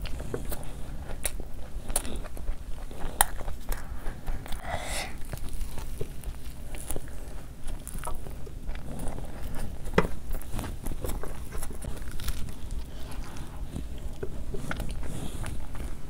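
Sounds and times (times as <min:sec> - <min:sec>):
person chewing with mouth clicks: 0:00.0 - 0:16.0.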